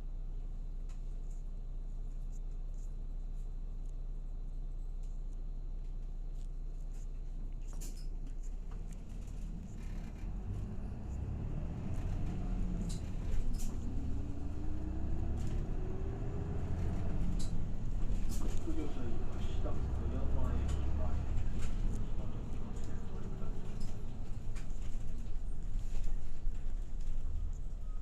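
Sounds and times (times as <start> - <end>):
bus diesel engine: 5.5 - 28.0.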